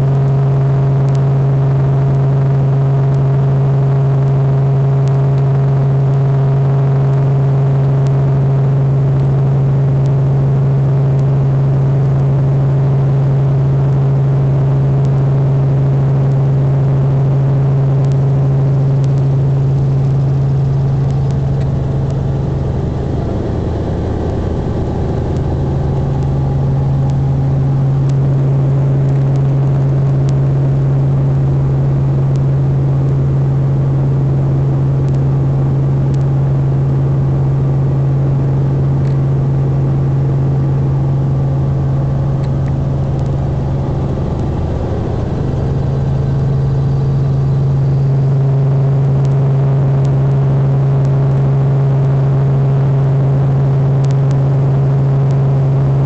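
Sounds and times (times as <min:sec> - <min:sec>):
helicopter drone in cabin: 0:00.0 - 0:56.0.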